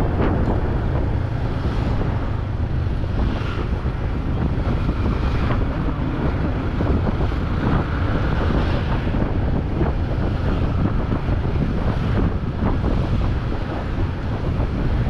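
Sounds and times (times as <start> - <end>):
motorcycle engine: 0.0 - 15.0
road noise: 0.0 - 15.0
wind buffeting microphone: 0.0 - 15.0.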